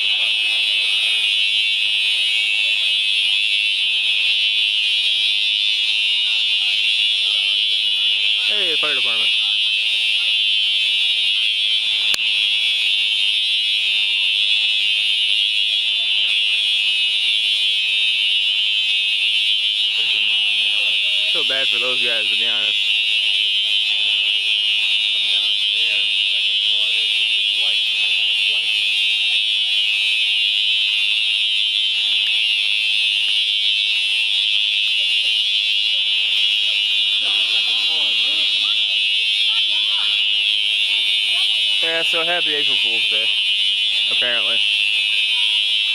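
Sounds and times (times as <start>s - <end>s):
fire alarm shrill tone: 0.0s - 45.9s.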